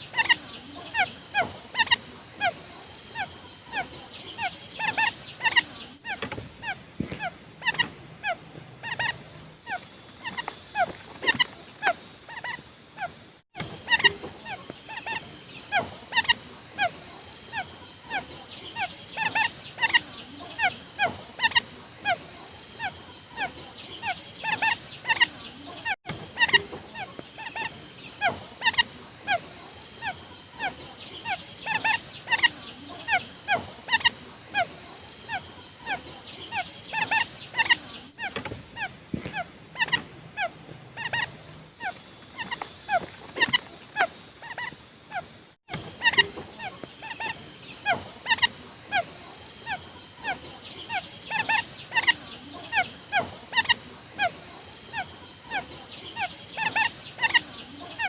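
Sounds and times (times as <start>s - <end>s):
quail calling: 0.0s - 58.0s.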